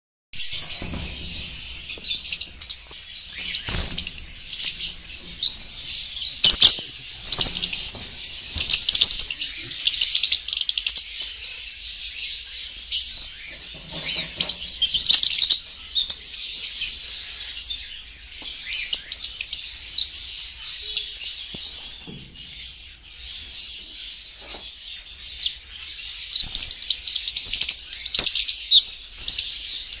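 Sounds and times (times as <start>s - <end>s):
lovebirds chattering and screeching: 0.4s - 30.0s.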